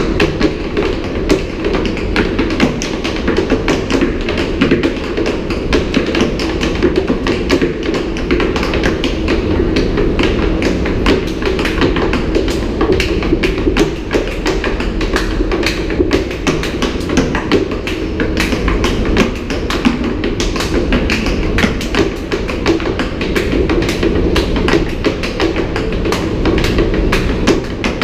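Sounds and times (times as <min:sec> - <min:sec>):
tap shoes on wooden boards: 0:00.0 - 0:28.0.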